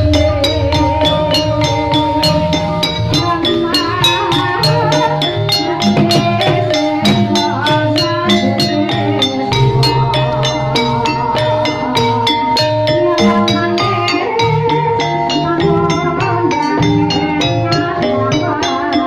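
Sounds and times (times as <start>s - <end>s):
fast drums and metallophones: 0.0s - 19.0s
held ringing tones: 0.0s - 19.0s.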